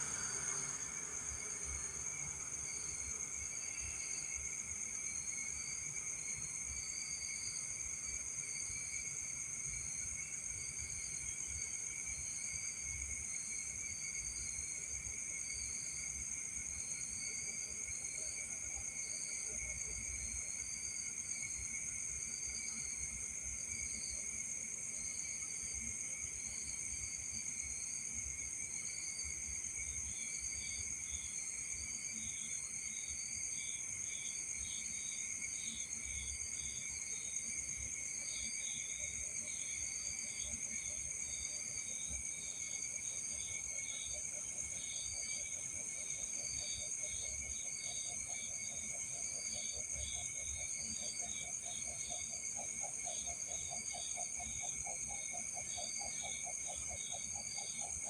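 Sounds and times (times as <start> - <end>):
crickets chirring: 0.0 - 58.0
low pulsing insect trill: 0.0 - 58.0.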